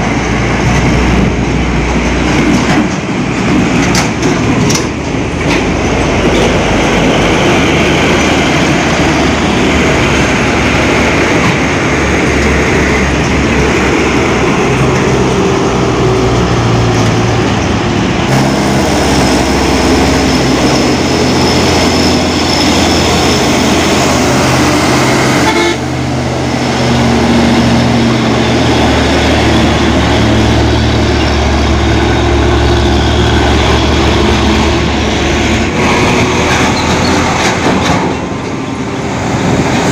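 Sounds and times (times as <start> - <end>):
road and traffic noise: 0.0 - 39.9
truck engines droning: 0.0 - 39.9.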